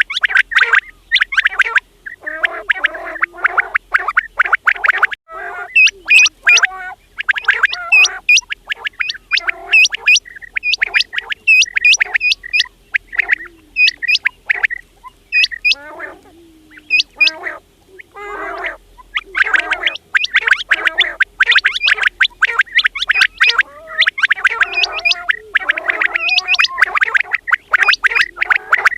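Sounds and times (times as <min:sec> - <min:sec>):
quails calling: 0:00.0 - 0:28.9.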